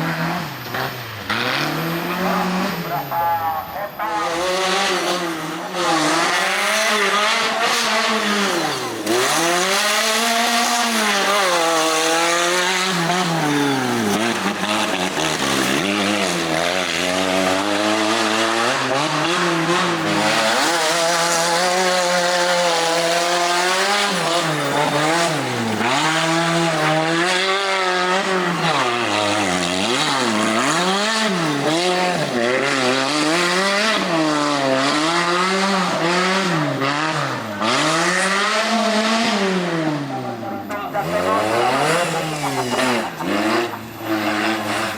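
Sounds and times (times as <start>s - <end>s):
off-road engine revving: 0.0s - 44.9s.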